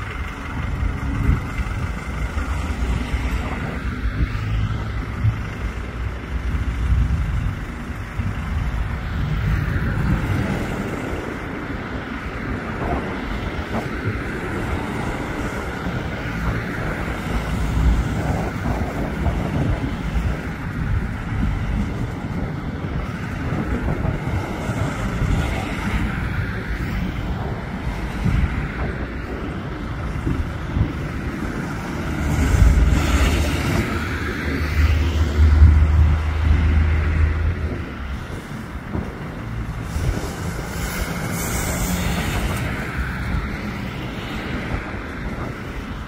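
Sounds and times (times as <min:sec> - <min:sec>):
low outdoor rumble: 0:00.0 - 0:46.0
wind buffeting microphone: 0:00.0 - 0:46.0.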